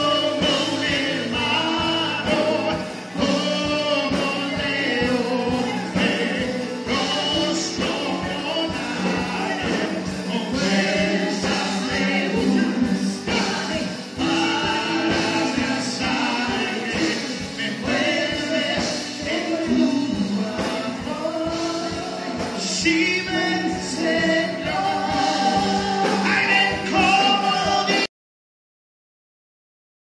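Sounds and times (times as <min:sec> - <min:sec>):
worship band playing: 0:00.0 - 0:28.1.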